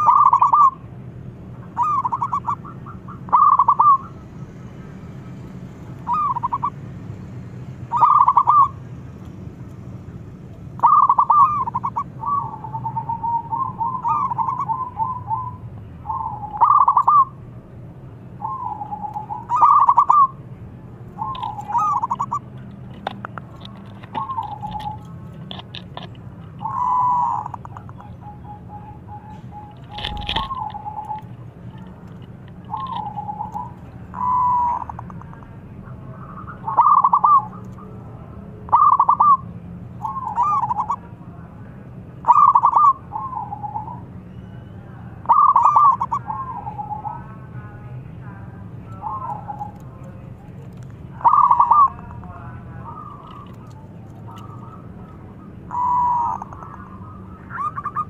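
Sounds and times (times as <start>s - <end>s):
dove cooing: 0.0s - 0.9s, 1.6s - 6.8s, 7.8s - 8.9s, 10.7s - 17.4s, 18.4s - 20.4s, 21.1s - 41.3s, 42.2s - 58.0s
steady low hum: 0.0s - 58.0s.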